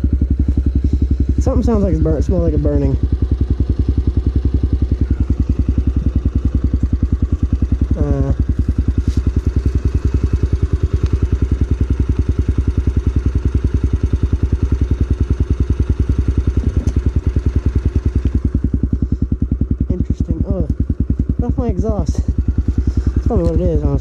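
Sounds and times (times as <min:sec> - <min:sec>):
motorcycle engine running steadily: 0:00.0 - 0:24.0.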